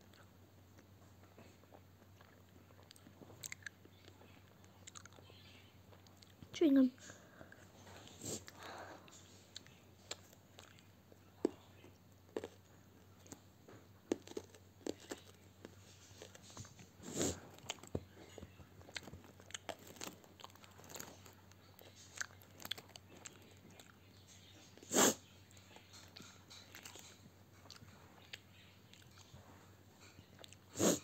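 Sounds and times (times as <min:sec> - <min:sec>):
chewing gum: 0:00.0 - 0:06.5, 0:07.4 - 0:31.0.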